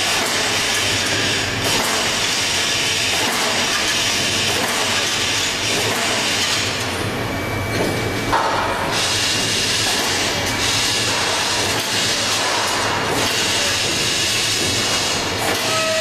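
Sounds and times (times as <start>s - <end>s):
thin machine whine: 0.0s - 16.0s.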